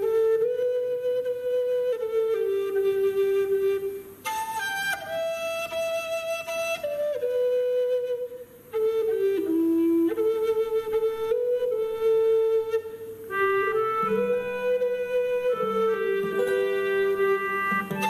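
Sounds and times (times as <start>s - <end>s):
flute playing slow melody: 0.0s - 18.0s.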